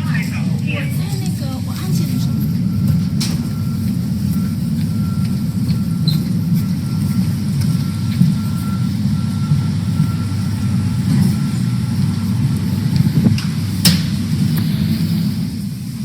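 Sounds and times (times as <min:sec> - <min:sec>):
vehicle rumble from inside: 0:00.0 - 0:16.0.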